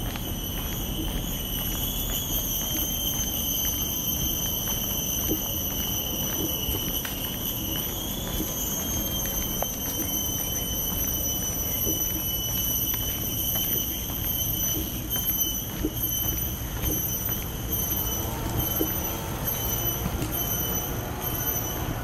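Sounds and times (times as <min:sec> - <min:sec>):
faint footsteps: 0:00.0 - 0:22.0
high-pitched insect drone: 0:00.0 - 0:22.0.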